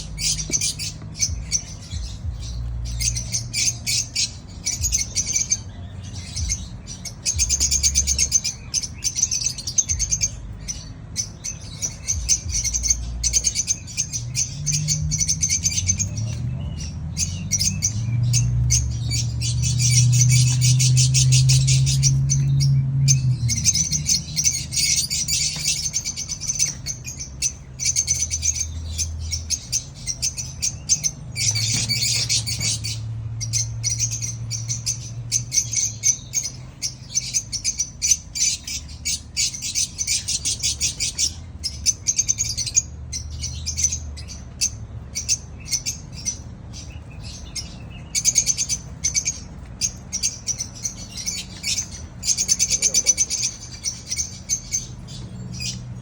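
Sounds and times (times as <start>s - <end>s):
bird chicks chirping: 0.0s - 56.0s.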